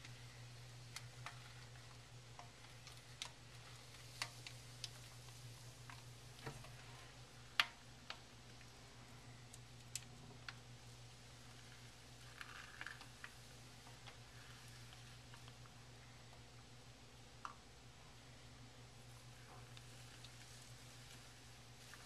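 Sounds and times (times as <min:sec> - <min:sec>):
small clicks and ticks: 0:00.0 - 0:10.7, 0:11.3 - 0:16.4, 0:19.1 - 0:22.0
steady low hum: 0:00.0 - 0:22.0.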